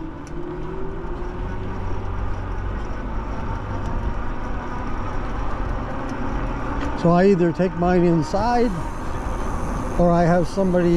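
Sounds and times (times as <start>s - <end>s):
faint motor whine: 0.0s - 10.9s
wind and road noise: 0.0s - 10.9s.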